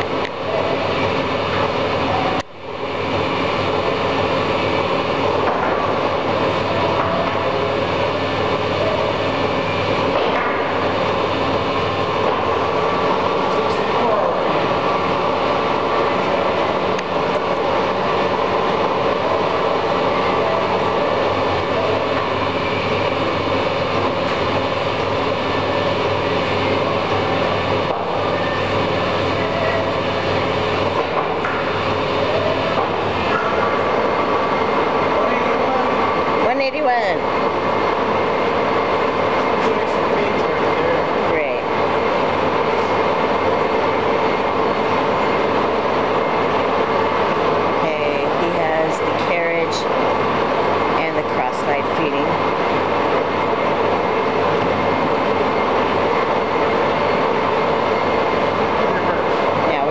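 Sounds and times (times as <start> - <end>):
lathe running: 0.0 - 59.9.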